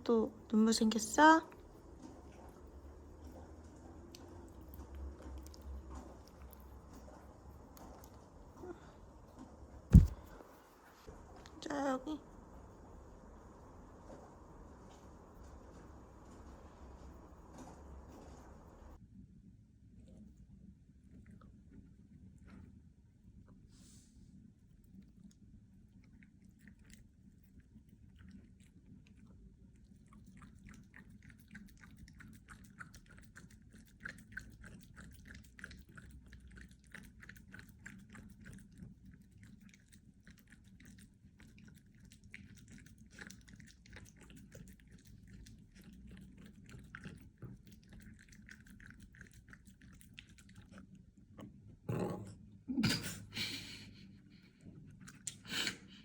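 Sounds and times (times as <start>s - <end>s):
puppy chewing crunchy food: 0.0s - 11.6s, 12.3s - 19.0s, 24.8s - 52.0s.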